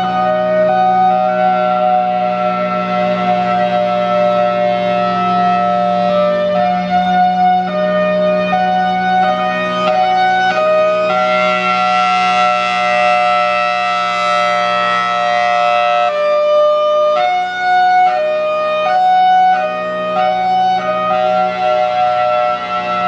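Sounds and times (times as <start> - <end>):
hi-lo warning siren: 0.0 - 23.0.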